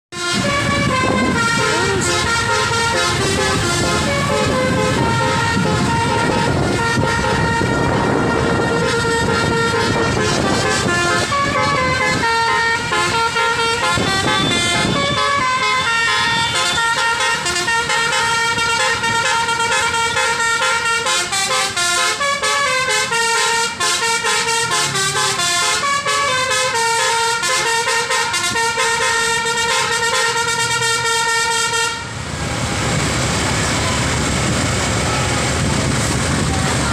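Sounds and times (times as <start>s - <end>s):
bus horn playing melody: 0.1s - 32.2s.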